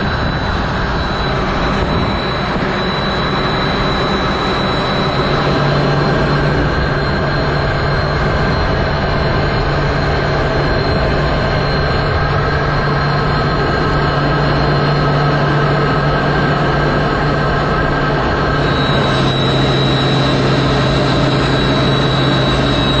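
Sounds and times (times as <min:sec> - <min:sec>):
aircraft engine drone: 0:00.0 - 0:23.0
faint high whine: 0:00.0 - 0:23.0.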